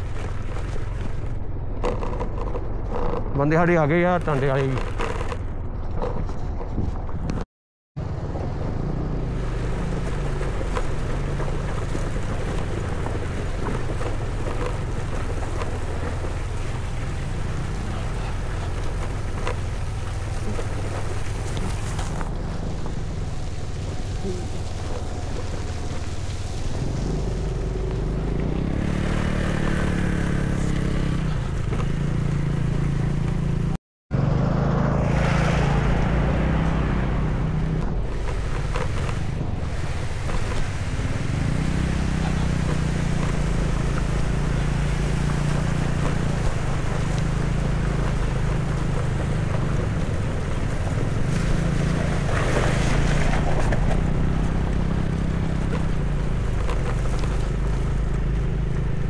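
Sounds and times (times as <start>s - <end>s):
motorcycle engine revving: 0.0s - 6.4s, 8.0s - 59.0s.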